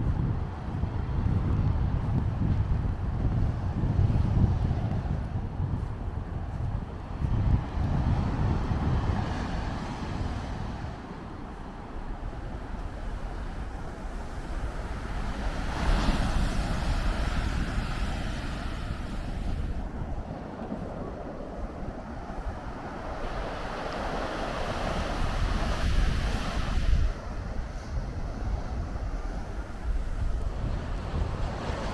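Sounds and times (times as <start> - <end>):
wind blowing across microphone: 0.0 - 31.9.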